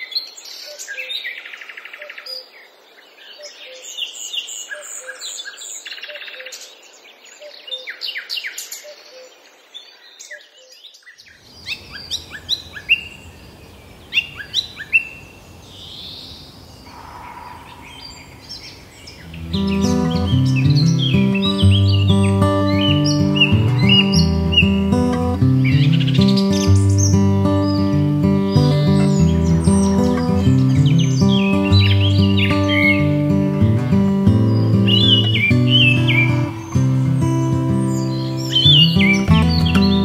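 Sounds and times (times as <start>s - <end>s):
birds chirping and calling: 7.3s - 40.0s.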